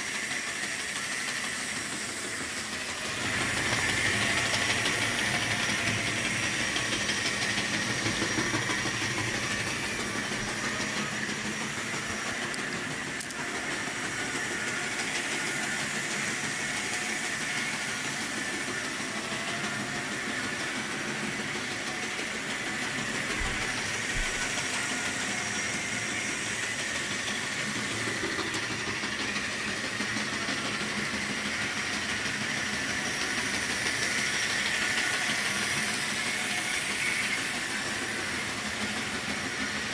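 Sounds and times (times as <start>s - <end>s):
model train motor whir: 0.0s - 39.9s
wheels hissing on rail: 0.0s - 39.9s.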